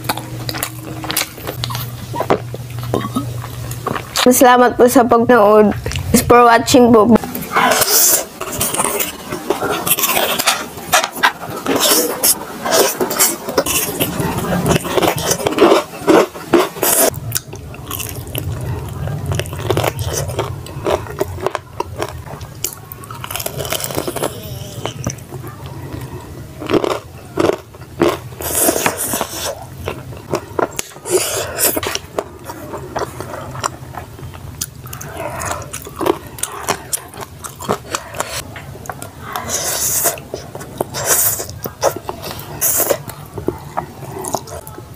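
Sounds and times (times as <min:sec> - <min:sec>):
chewing: 0:00.0 - 0:04.3, 0:05.7 - 0:06.2, 0:07.2 - 0:44.9.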